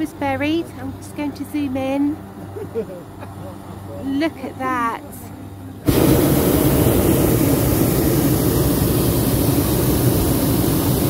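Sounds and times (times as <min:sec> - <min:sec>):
propane burner roaring: 0:00.0 - 0:11.0.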